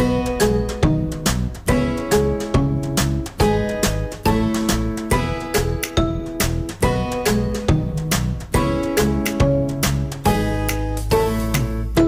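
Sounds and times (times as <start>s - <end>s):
plucked notes over bass line: 0.0s - 12.0s.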